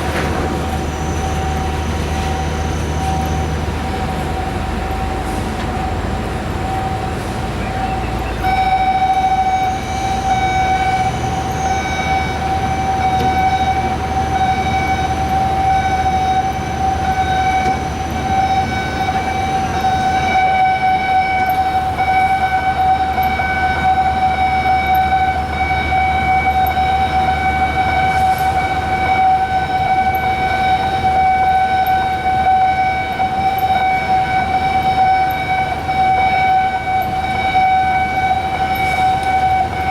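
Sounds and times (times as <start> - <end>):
higher steady alarm tones: 0.8 - 39.9
steady alarm tone: 0.8 - 39.9.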